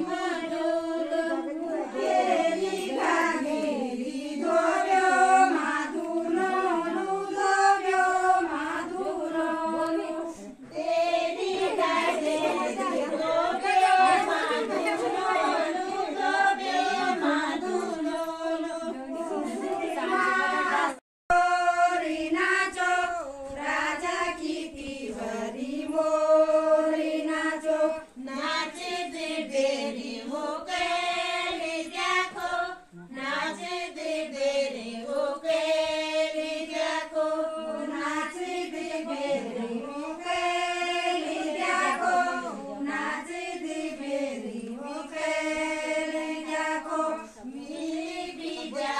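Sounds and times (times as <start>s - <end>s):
women singing unaccompanied: 0.0s - 48.9s.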